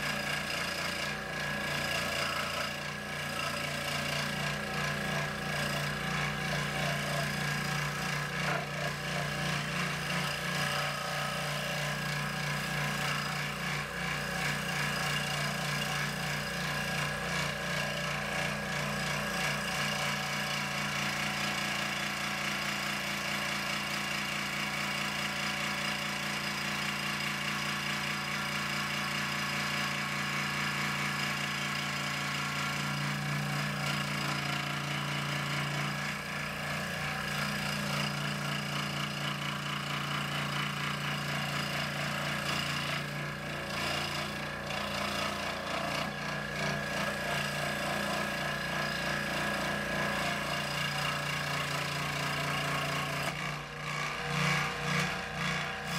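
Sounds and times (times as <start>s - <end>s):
scroll saw cutting wood: 0.0s - 55.9s.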